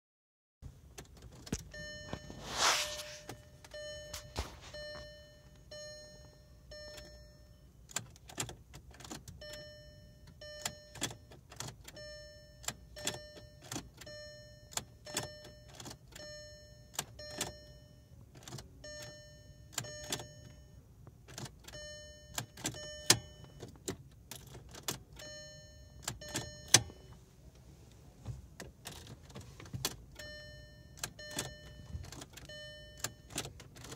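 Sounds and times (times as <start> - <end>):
ignition key clicks: 0.8 - 2.3, 3.2 - 17.7, 18.3 - 27.2, 28.5 - 33.9.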